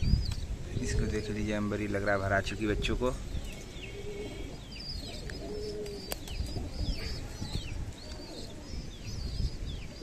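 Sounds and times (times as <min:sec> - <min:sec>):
pigeons cooing: 0:00.1 - 0:10.0.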